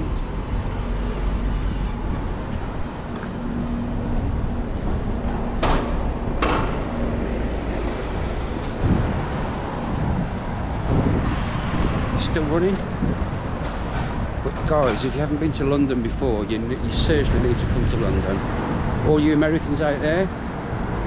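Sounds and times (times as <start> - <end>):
engine hum: 0.0 - 21.0
vehicles passing: 0.0 - 21.0.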